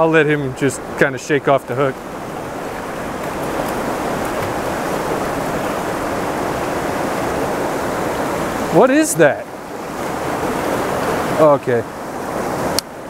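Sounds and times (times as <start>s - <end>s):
river rushing through rapids: 0.0s - 13.0s.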